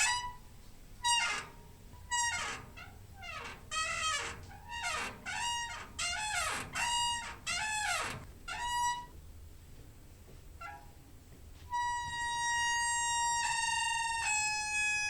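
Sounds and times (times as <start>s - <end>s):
door hinge squeaking: 0.0s - 0.4s, 1.0s - 9.1s, 10.6s - 11.0s, 11.7s - 15.0s.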